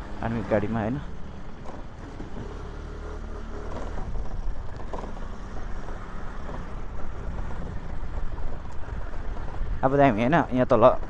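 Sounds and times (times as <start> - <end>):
scooter engine running: 0.0 - 11.0
wind and road noise: 0.0 - 11.0.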